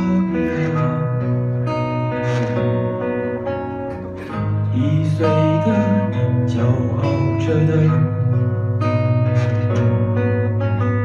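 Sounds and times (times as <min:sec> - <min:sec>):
strummed acoustic guitars: 0:00.0 - 0:11.0.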